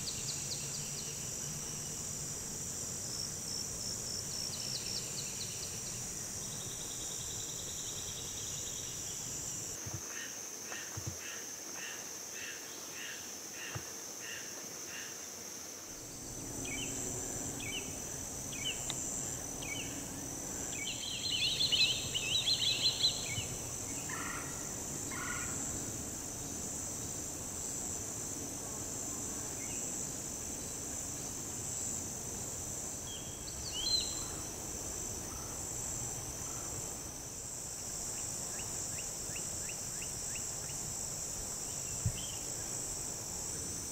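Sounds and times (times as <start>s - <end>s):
high-pitched insect drone: 0.0s - 10.4s, 15.9s - 43.9s.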